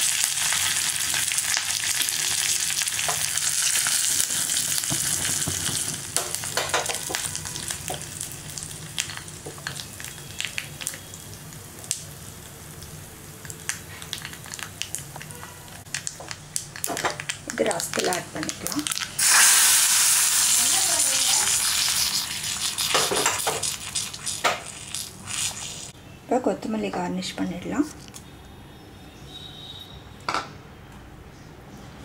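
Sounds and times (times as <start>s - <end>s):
leaves sizzling in hot oil: 0.0s - 26.0s
oil popping and crackling: 0.0s - 26.0s.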